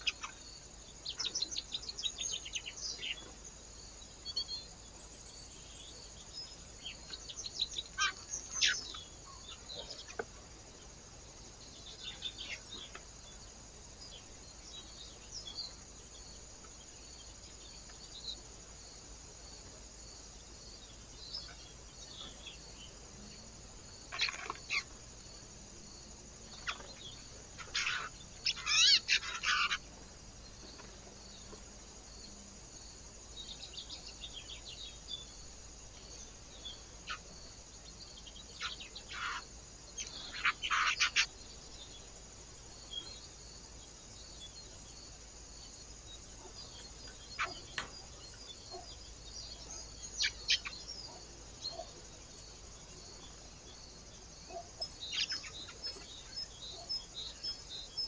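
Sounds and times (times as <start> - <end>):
faint background hiss: 0.0 - 58.0
small birds chirping: 0.0 - 58.0.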